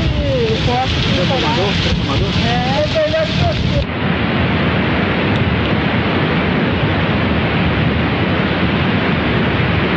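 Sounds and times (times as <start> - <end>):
heavy downpour: 0.0 - 9.9
wind buffeting the microphone: 0.0 - 9.9.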